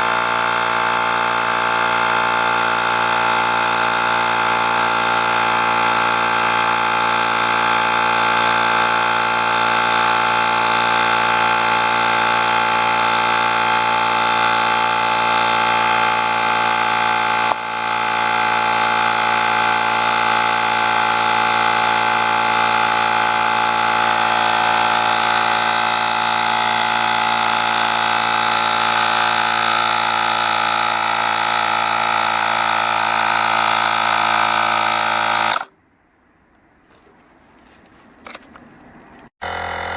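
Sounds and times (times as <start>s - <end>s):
electric air compressor buzzing: 0.0s - 35.8s, 39.4s - 39.9s.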